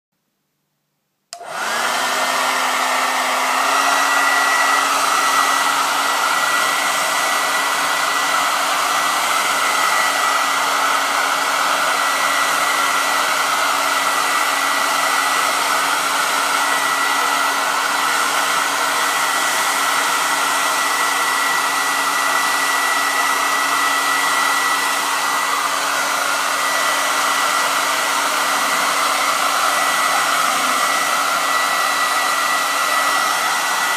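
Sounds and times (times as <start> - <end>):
hair dryer running: 1.3 - 33.9.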